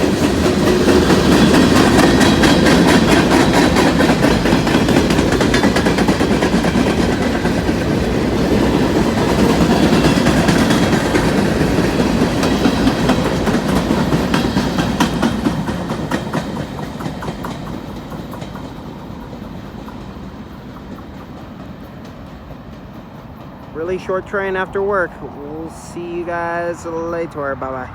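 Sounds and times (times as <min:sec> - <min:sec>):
wheels clicking over rail joints: 0:00.0 - 0:27.3
train rumble: 0:00.0 - 0:27.9.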